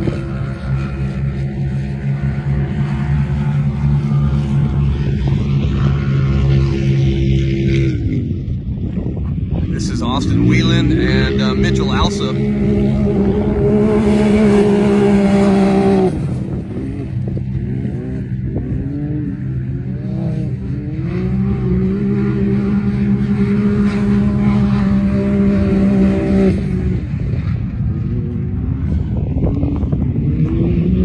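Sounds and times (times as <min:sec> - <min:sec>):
engines revving: 0:00.0 - 0:31.0.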